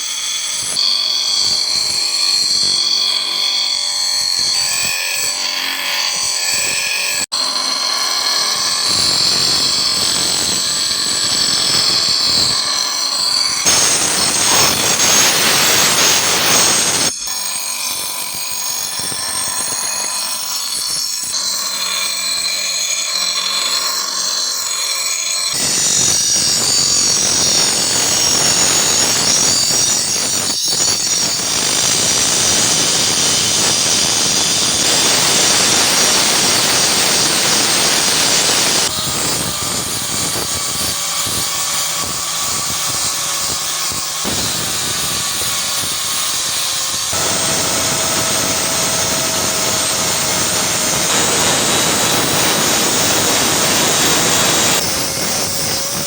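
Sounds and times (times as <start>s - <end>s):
power grinder on steel: 0.0s - 56.0s.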